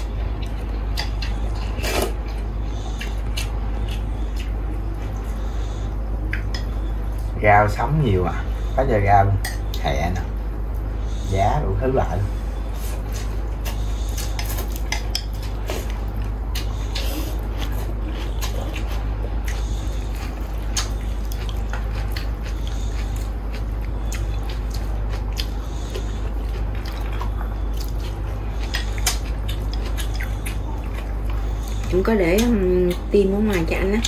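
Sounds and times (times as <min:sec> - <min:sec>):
chewing: 0:00.0 - 0:07.4, 0:12.4 - 0:34.0
steady low hum: 0:00.0 - 0:34.0.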